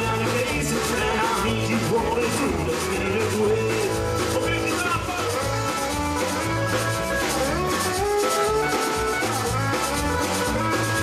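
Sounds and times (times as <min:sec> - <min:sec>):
accordion: 0:00.0 - 0:11.0
congas: 0:00.0 - 0:11.0
drum kit beat: 0:00.0 - 0:11.0
electric guitar: 0:00.0 - 0:11.0.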